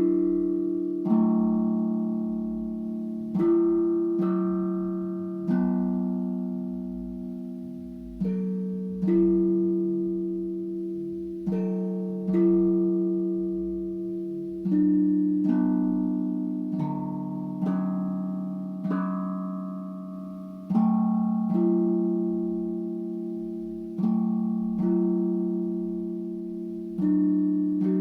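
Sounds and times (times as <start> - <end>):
steel tongue drum notes ringing: 0.0 - 28.0.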